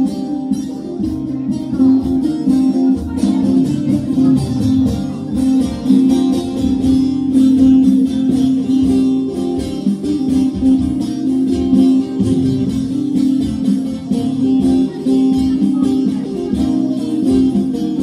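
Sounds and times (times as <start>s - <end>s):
acoustic guitar: 0.0s - 18.0s
long-necked lute picked notes: 0.0s - 18.0s.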